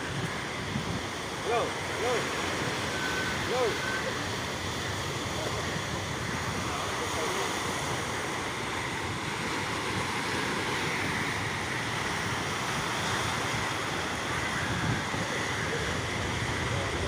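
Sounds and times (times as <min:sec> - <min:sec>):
wind and sea water rushing: 0:00.0 - 0:17.0
wind on microphone: 0:00.0 - 0:17.0.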